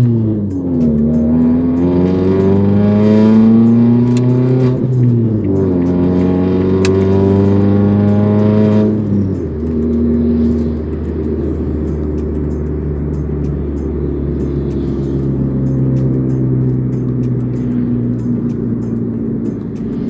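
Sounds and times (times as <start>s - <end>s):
car engine and exhaust: 0.0s - 20.0s.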